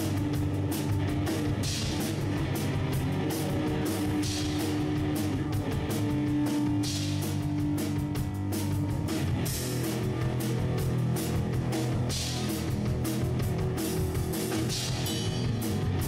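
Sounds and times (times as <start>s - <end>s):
instrumental rock band: 0.0s - 16.0s.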